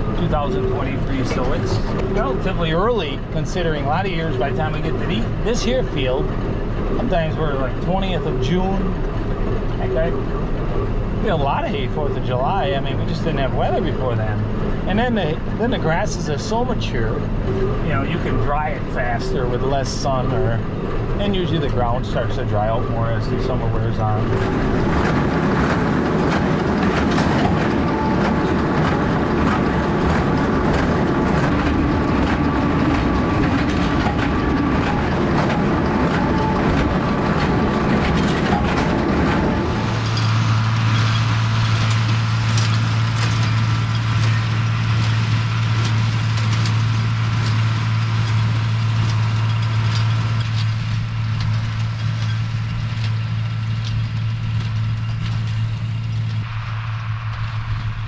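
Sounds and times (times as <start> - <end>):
baler mechanical rattle: 0.0 - 58.0
tractor engine running: 0.0 - 58.0.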